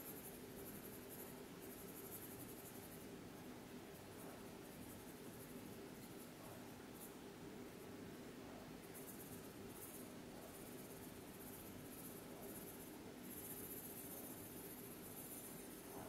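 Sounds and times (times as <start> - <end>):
semolina rustling hiss: 0.0 - 16.0.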